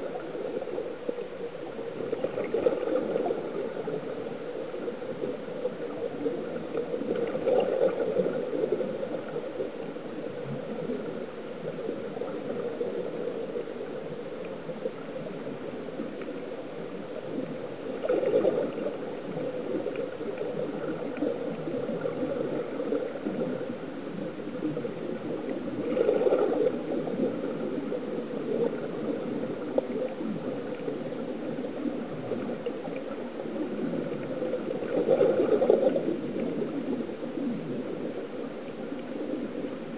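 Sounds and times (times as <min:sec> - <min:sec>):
air bubbles gurgling underwater: 0:01.6 - 0:39.9.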